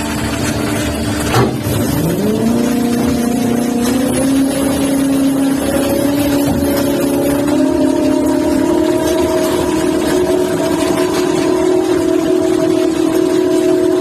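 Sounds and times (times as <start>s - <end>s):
boat machinery humming: 0.0s - 14.0s
motor whine: 0.0s - 14.0s.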